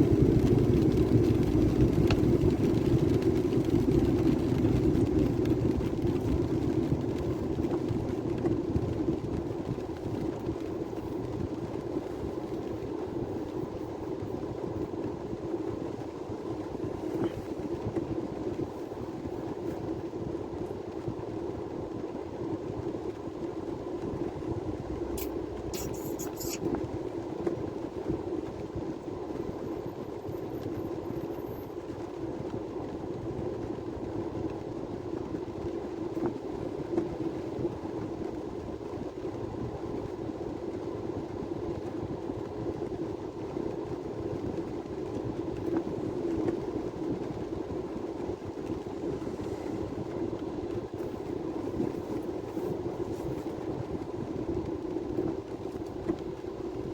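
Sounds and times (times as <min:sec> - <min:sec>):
vehicle engine and road noise: 0:00.0 - 0:41.4, 0:42.0 - 0:56.9.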